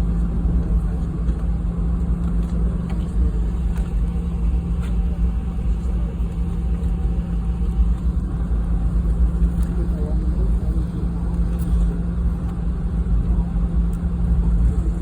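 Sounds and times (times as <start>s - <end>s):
airliner cabin rumble and hum: 0.0s - 15.0s.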